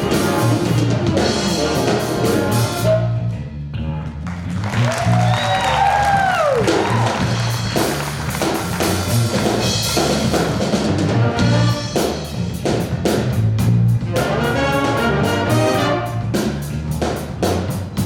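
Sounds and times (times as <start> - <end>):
sustained band chords: 0.0 - 4.2, 7.0 - 18.0
band playing funk groove: 0.0 - 18.0
drum kit: 0.0 - 18.0
repeating bass line: 0.0 - 18.0.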